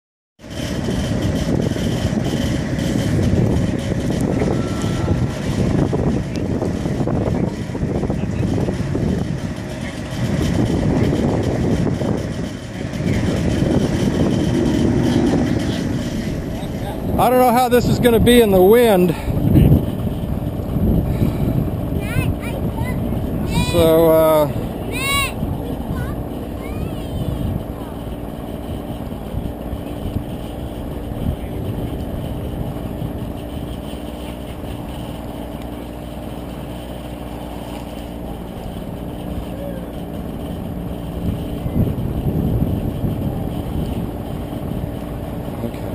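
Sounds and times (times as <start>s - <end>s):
drone propellers whirring: 0.4s - 45.9s
wind buffeting microphone: 0.4s - 45.9s.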